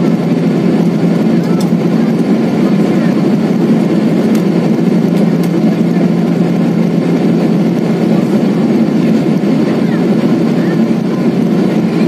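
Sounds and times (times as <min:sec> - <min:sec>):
jet engine and airflow rush: 0:00.0 - 0:12.0.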